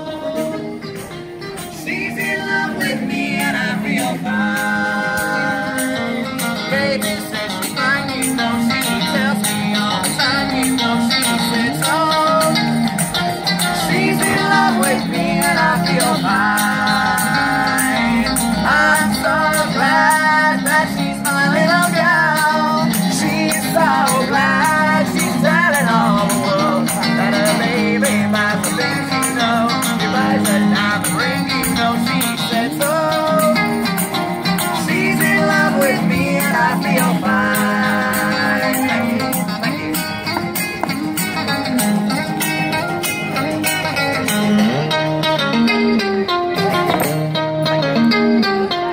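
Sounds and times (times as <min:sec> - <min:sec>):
acoustic guitar playing: 0:00.0 - 0:48.9
electric guitar through small amp: 0:00.0 - 0:48.9.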